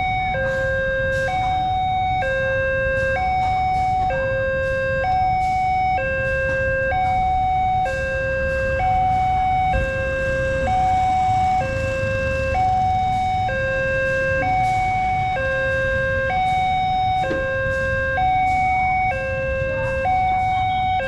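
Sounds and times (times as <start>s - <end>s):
road traffic rumble: 0.0s - 21.0s
two-tone crossing alarm: 0.0s - 21.0s.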